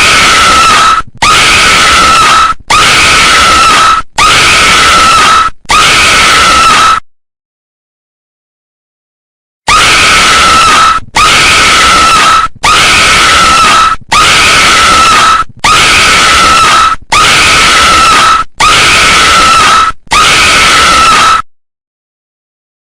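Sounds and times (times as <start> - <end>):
rasping high-pitched scream: 0.0 - 7.1, 9.7 - 21.5.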